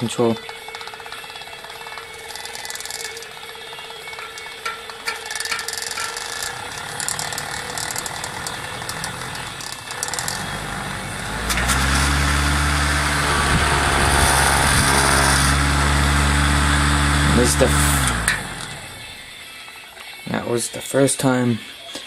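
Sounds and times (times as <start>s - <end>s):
motor driving siren rotor: 0.4s - 19.3s
rush of air from spinning can: 0.7s - 19.0s.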